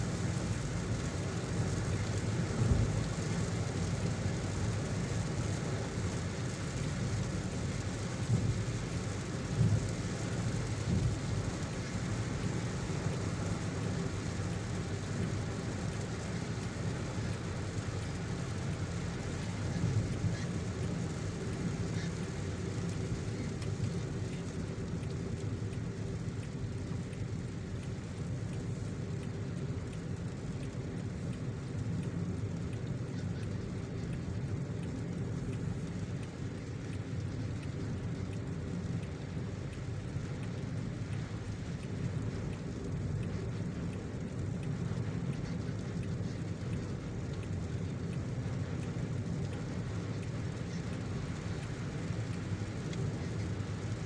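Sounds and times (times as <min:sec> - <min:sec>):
rain hissing: 0:00.0 - 0:54.0
road and engine rumble: 0:00.0 - 0:54.0.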